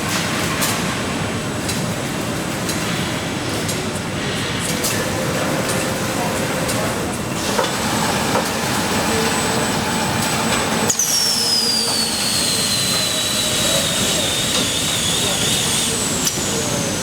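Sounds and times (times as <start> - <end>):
factory machinery running: 0.0 - 17.0.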